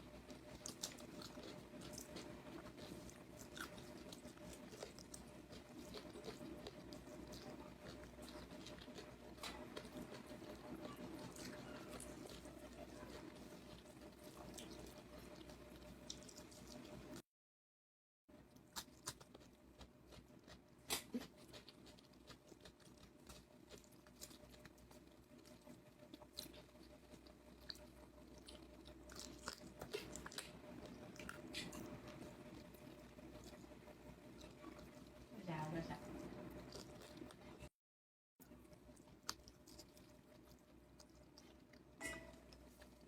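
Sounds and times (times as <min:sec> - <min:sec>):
person chewing food: 0:00.0 - 0:17.2, 0:18.4 - 0:35.4, 0:36.0 - 0:37.7, 0:38.4 - 0:43.0.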